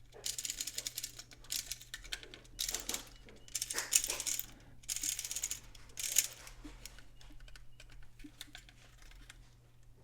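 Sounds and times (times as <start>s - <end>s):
plastic parts clicking and rattling: 0.0s - 9.6s.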